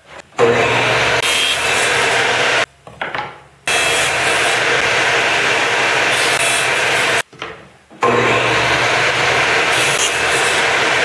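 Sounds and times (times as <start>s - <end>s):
table saw cutting plywood: 0.4s - 2.7s, 3.7s - 7.2s, 8.0s - 11.0s.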